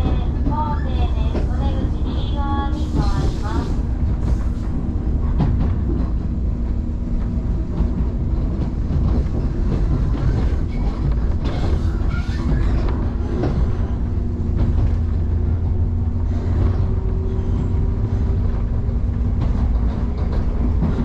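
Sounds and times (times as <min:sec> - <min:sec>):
train rumble from inside: 0:00.0 - 0:21.0.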